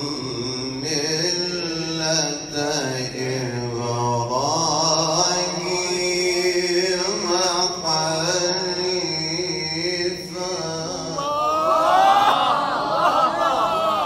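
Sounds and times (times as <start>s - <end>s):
man chanting: 0.0s - 11.4s.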